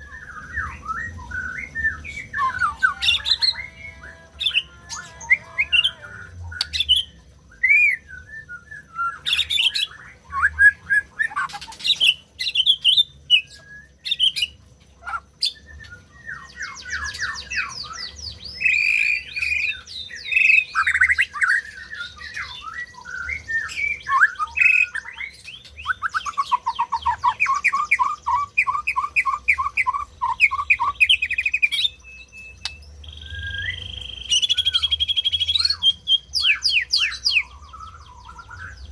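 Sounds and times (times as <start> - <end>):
bird singing whistled phrases: 0.0 - 38.9.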